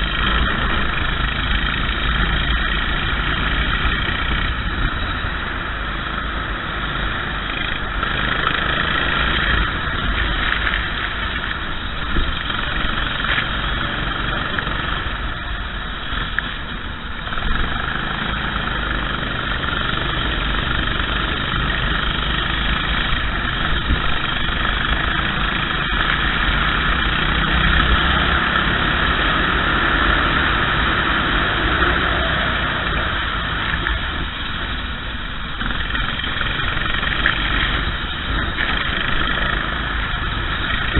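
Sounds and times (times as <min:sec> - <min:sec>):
kart engine running: 0:00.0 - 0:40.9.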